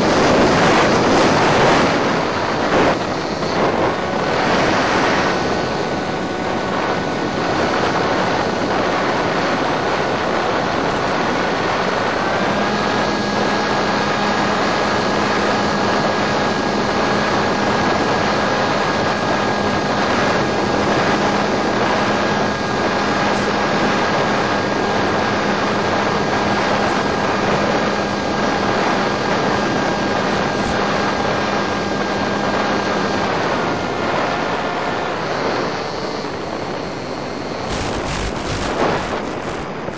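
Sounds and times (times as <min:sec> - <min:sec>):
model plane electric motor whine: 0:00.0 - 0:39.9
wind noise: 0:00.0 - 0:39.9.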